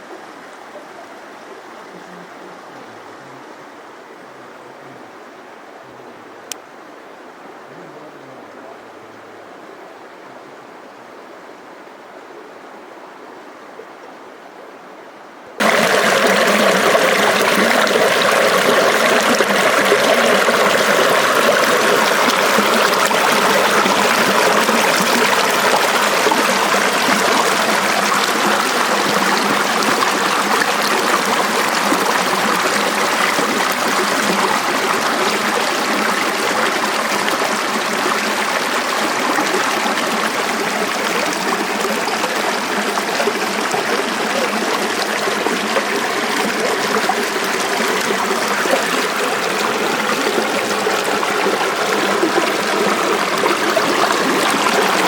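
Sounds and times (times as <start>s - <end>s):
creek flowing over rocks: 0.0s - 14.1s, 15.6s - 55.0s.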